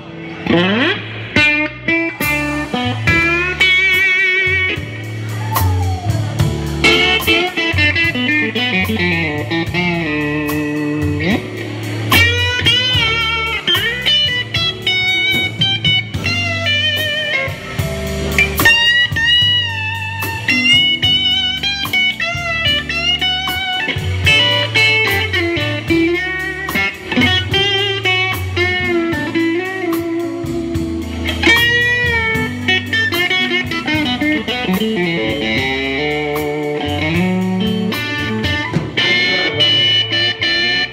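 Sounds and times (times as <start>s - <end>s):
electric guitar lead with bends: 0.0s - 40.9s
drums with cymbal strokes: 2.2s - 39.6s.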